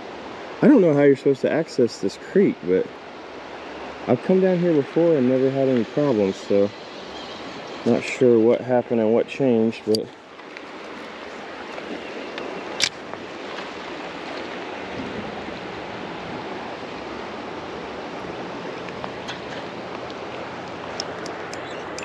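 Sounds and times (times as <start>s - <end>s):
river current rushing: 0.0s - 22.0s.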